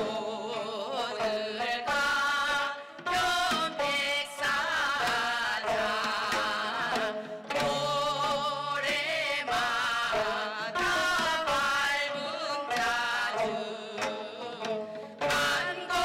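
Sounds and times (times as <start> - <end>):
people singing folk song: 0.0 - 16.0
plucked zither ensemble: 0.0 - 16.0.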